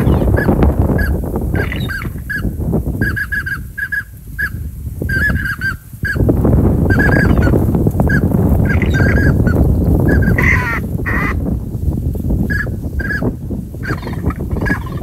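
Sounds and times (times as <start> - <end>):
geese honking: 0.0 - 6.2, 6.8 - 11.4, 12.5 - 15.0
wind rumble on microphone: 0.0 - 15.0.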